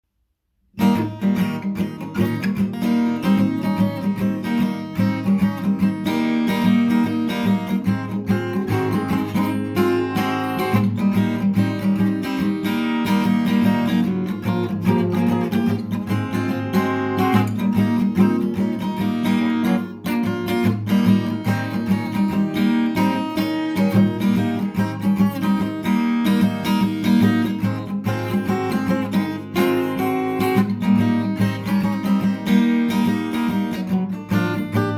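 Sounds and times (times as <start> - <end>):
strummed acoustic guitar: 0.8 - 34.9.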